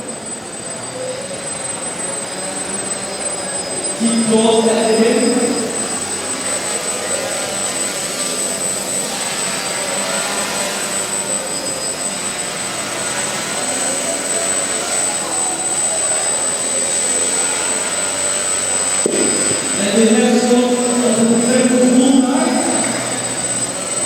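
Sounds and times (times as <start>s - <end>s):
drone propellers whirring: 0.0s - 24.0s.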